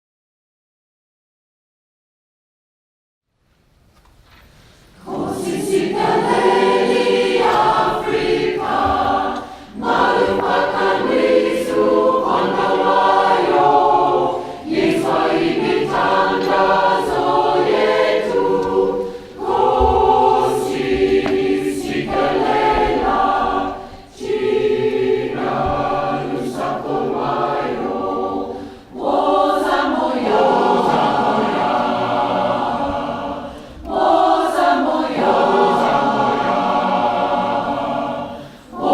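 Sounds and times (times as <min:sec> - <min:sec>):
choir singing: 0:05.0 - 0:38.9.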